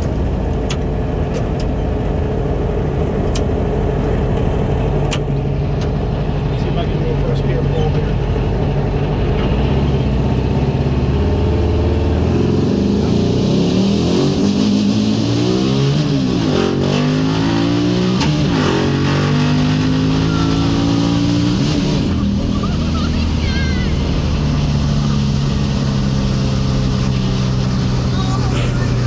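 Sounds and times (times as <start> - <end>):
buggy engine running under load: 0.0 - 29.0.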